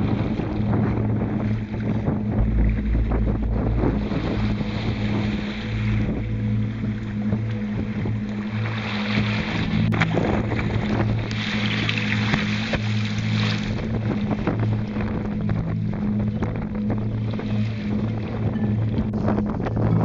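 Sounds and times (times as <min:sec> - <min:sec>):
sea water: 0:00.0 - 0:20.0
steady low hum: 0:00.0 - 0:20.0
wind on microphone: 0:00.0 - 0:20.0.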